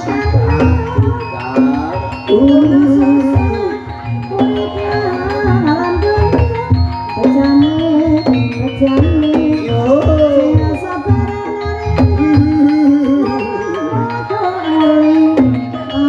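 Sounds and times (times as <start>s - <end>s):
hand drums thumping: 0.0s - 16.0s
sliding held melodic line: 0.0s - 16.0s
struck metal gamelan notes: 0.0s - 16.0s.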